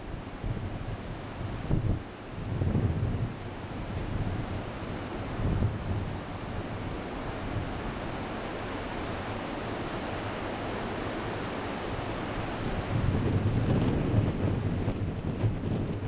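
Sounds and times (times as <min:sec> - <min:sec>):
surf breaking on a beach: 0:00.0 - 0:16.0
wind buffeting the microphone: 0:00.0 - 0:16.0.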